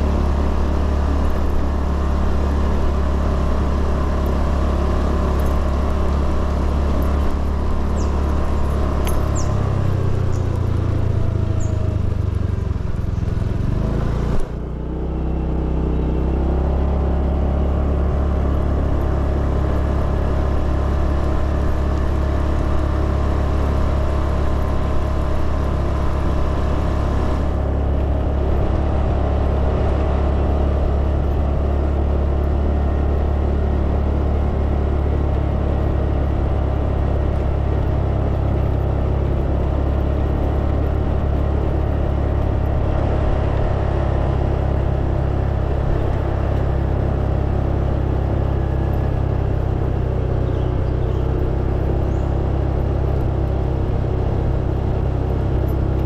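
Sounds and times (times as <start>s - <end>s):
scooter engine cruising: 0.0s - 56.0s.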